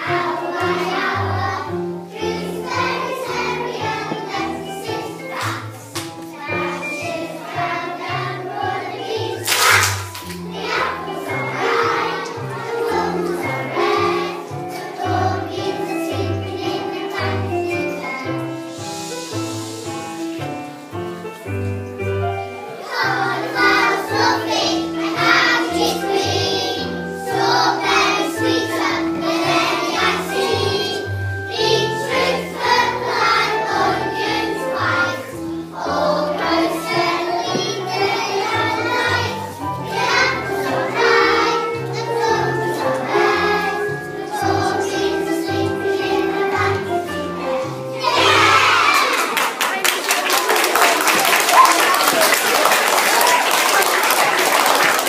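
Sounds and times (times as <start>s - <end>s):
children singing: 0.0s - 20.3s, 22.7s - 49.5s.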